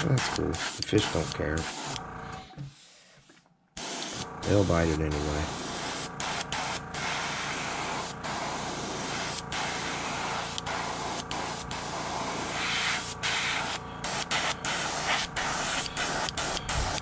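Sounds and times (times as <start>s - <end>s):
airbrush spraying hiss: 0.0s - 2.0s, 3.8s - 17.0s.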